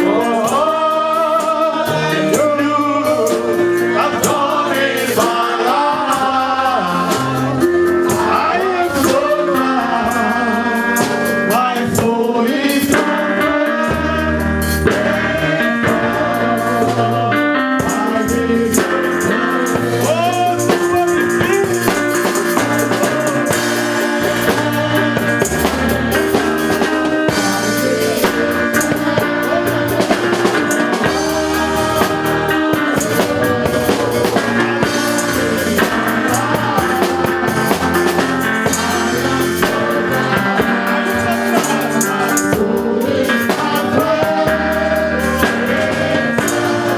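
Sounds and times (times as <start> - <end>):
live band playing: 0.0 - 46.9
person singing: 0.0 - 46.9.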